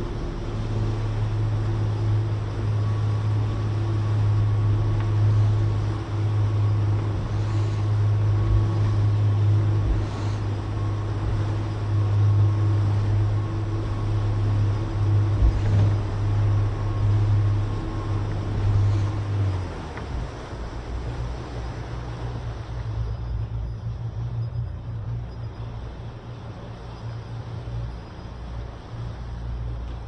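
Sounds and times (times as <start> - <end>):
motorboat engine humming: 0.0 - 30.0
rushing water: 0.0 - 30.0
wind: 0.0 - 30.0.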